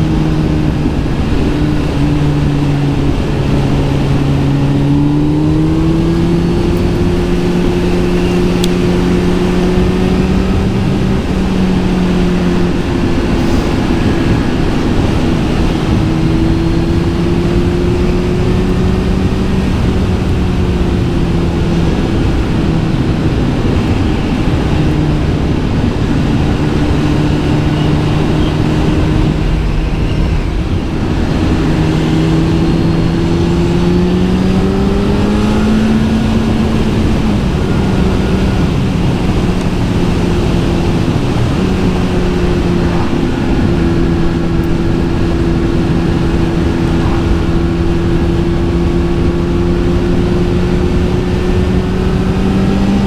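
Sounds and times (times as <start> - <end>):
motorcycle engine revving: 0.0 - 53.0
rushing wind: 0.0 - 53.0.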